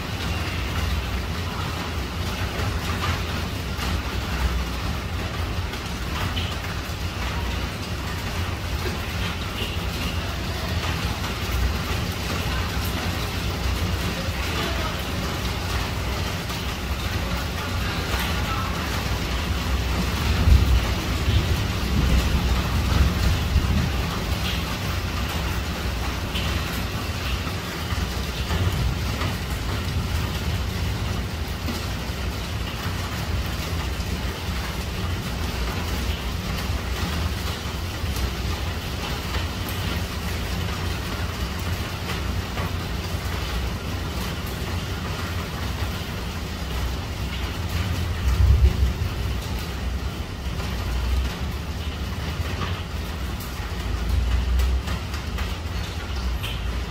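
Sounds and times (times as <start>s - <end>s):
heavy rain on a tiled roof: 0.0s - 56.9s.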